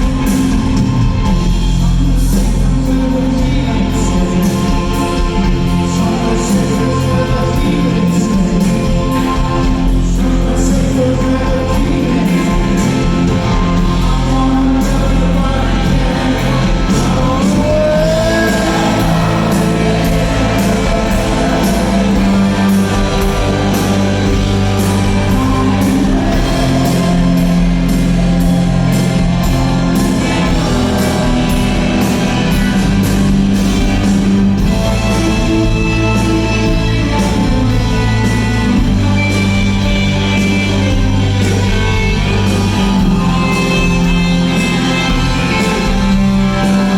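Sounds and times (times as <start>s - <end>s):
live rock band playing: 0.0s - 46.9s
person singing: 0.0s - 46.9s.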